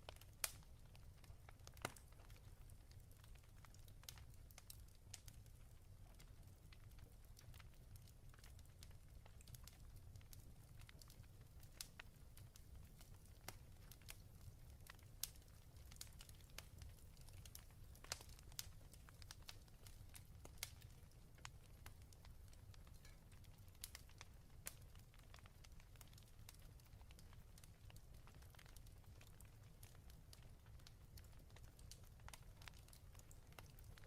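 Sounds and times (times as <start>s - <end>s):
fireplace crackling: 0.0s - 34.0s
burning wood popping and snapping: 0.1s - 5.2s, 10.6s - 34.0s.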